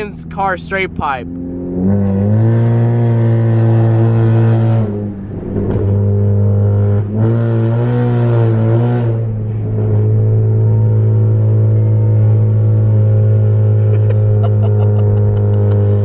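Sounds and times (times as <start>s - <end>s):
car exhaust droning: 0.0s - 16.0s.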